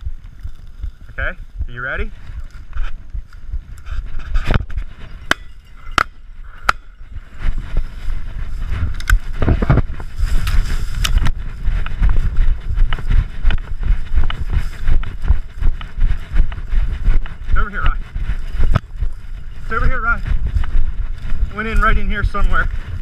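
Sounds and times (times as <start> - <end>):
rustling of vegetation: 0.0 - 23.0
wind on microphone: 0.0 - 23.0.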